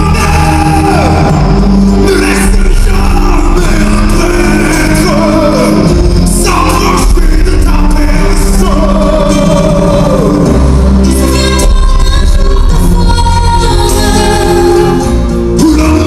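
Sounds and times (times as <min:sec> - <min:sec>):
amplified band accompaniment: 0:00.0 - 0:16.0
man singing a ballad: 0:00.0 - 0:16.0.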